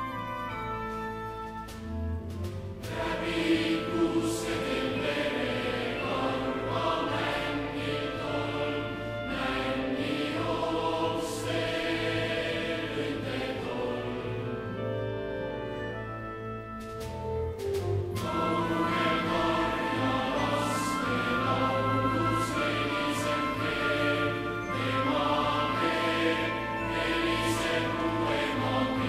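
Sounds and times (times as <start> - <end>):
choir singing held chords: 2.8 - 16.0, 18.1 - 29.0.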